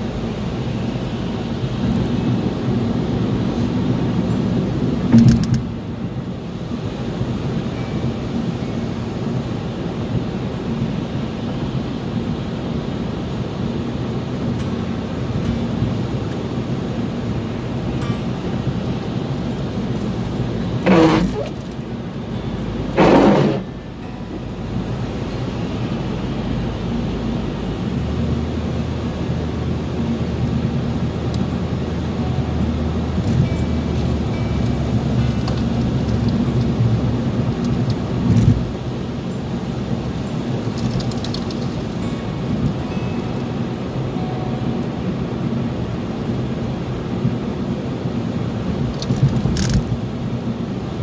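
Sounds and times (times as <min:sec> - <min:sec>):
car road and engine noise: 0:00.0 - 0:51.0.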